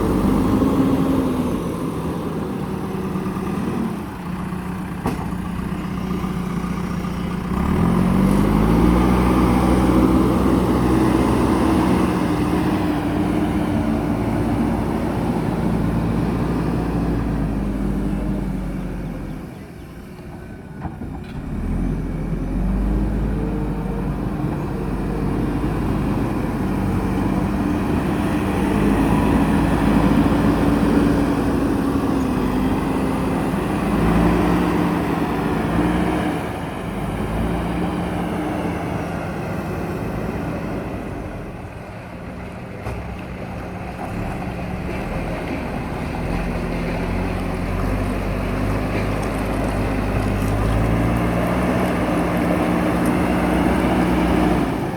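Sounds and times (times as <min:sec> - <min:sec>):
heavy diesel engine revving: 0:00.0 - 0:19.5, 0:21.4 - 0:41.7, 0:43.7 - 0:54.9.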